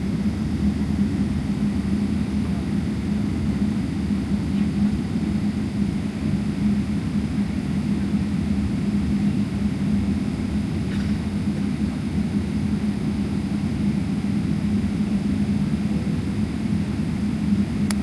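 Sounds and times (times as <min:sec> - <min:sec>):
jet engines and airflow rumble: 0:00.0 - 0:18.0.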